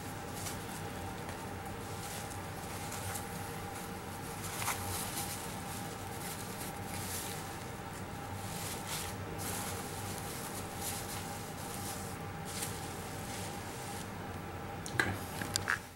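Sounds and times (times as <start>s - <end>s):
hands rustling feathers: 0.0s - 14.1s.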